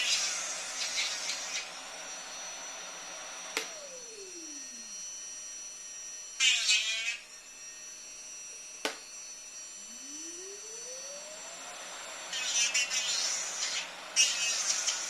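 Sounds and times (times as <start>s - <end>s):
small high-speed motors whining: 0.0s - 15.0s.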